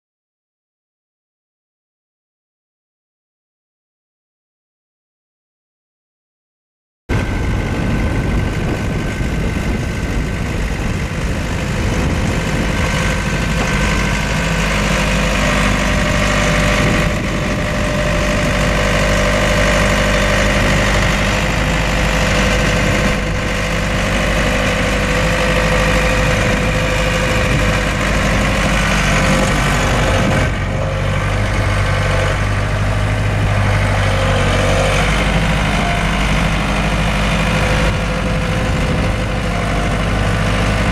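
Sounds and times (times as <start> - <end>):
diesel engine running: 7.1 - 40.9.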